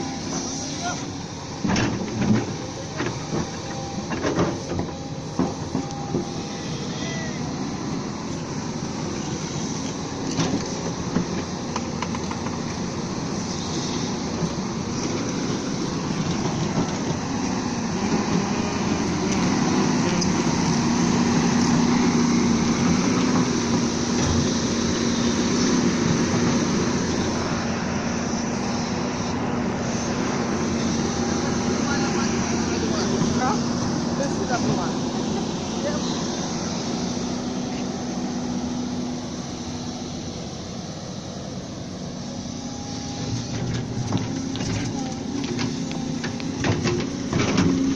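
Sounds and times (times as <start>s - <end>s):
excavator engine hum: 0.0s - 47.9s.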